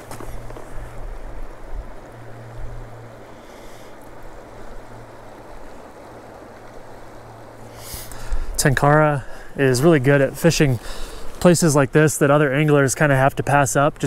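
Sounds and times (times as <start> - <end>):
river rushing past rocks: 0.0 - 14.0.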